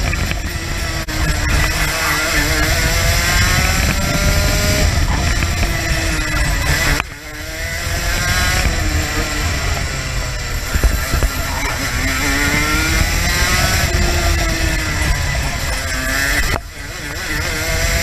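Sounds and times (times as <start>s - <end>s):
wind rush on microphone: 0.0s - 15.8s
kart engine at high revs: 0.0s - 18.0s.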